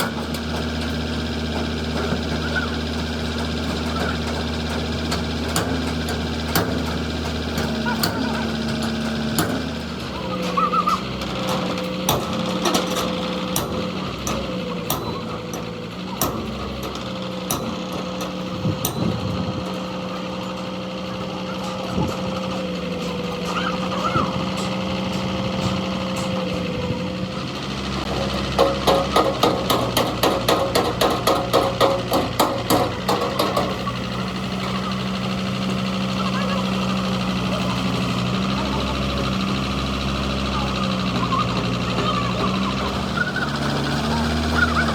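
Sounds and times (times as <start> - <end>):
machine hum: 0.0 - 44.9.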